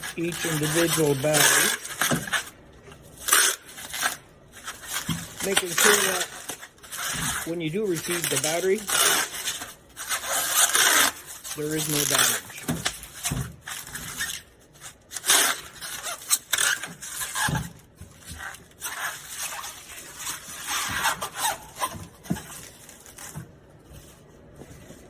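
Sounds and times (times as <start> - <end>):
bubble wrap crinkling: 0.0 - 25.0
plastic scraping: 0.0 - 25.0.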